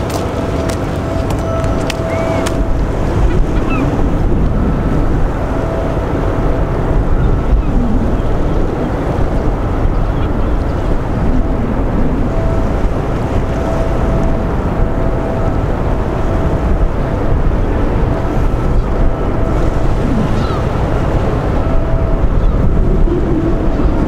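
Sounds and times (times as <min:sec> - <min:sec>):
ship engine rumble: 0:00.0 - 0:24.0
wind buffeting microphone: 0:00.0 - 0:24.0.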